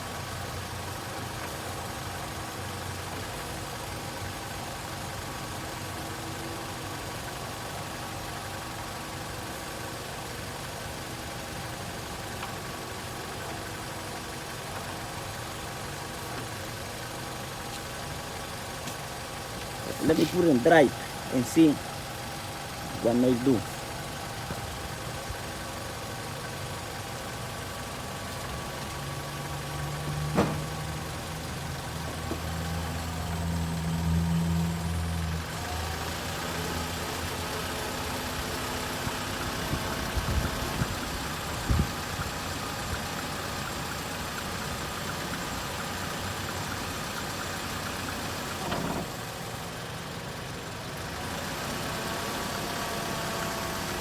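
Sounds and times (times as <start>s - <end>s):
car engine and drivetrain hum: 0.0s - 54.0s.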